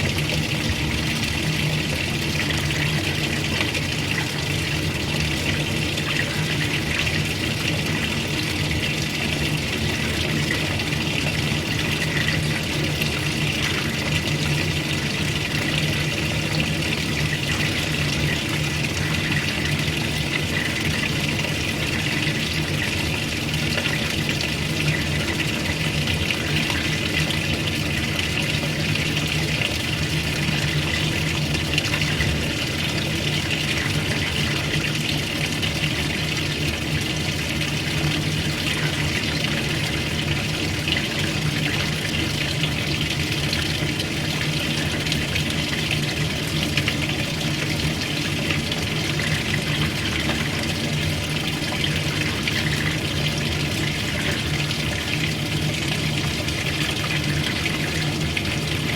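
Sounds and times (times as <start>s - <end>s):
water running into washing machine: 0.0s - 58.9s.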